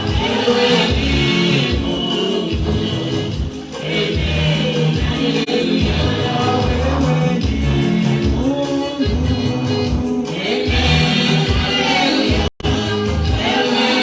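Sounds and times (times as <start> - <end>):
band with strong bass: 0.0 - 14.0
choir singing: 0.0 - 14.0.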